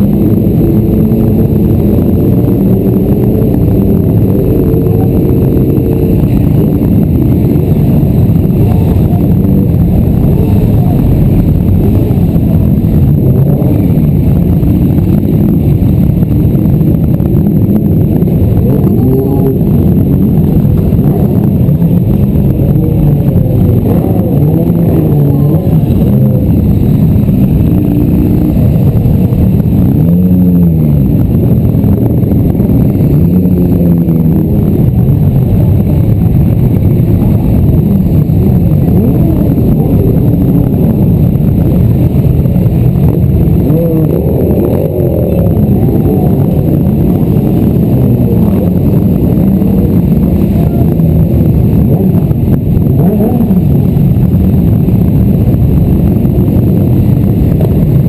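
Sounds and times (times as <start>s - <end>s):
motorcycle engines revving: 0.0s - 58.0s.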